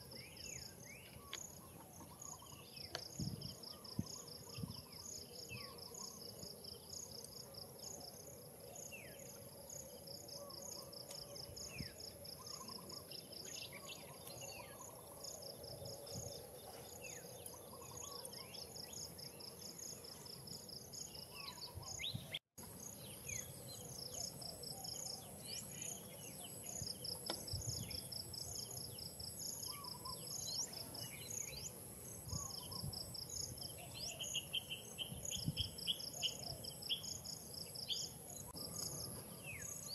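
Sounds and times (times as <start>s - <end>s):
bird chirps: 0.0s - 39.9s
insects chirping: 0.0s - 39.9s.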